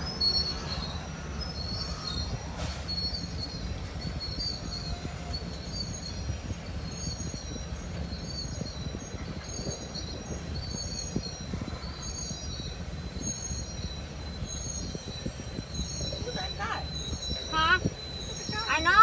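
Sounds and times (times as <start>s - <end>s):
freight train rumbling past: 0.0s - 19.0s
wheel squeals: 0.0s - 19.0s.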